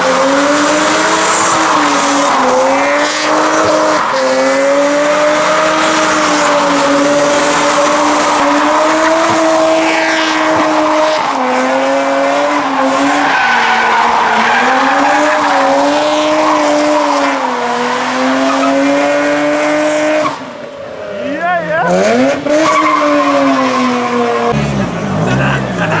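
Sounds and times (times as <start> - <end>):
car engine at high revs: 0.0 - 21.1, 21.7 - 26.0
tyres squealing in a burnout: 0.0 - 26.0.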